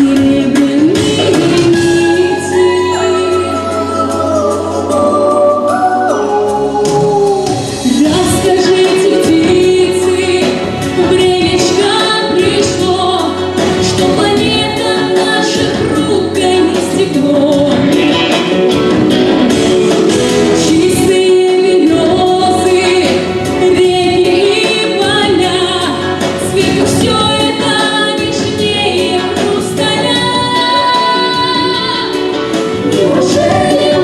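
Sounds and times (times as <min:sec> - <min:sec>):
instrumental accompaniment: 0:00.0 - 0:34.0
person singing: 0:00.0 - 0:34.0.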